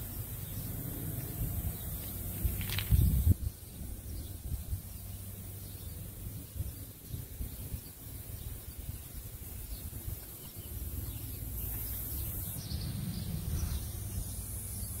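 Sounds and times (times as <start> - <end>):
bird chirps: 0.0 - 15.0
low rumble on microphone: 0.0 - 15.0.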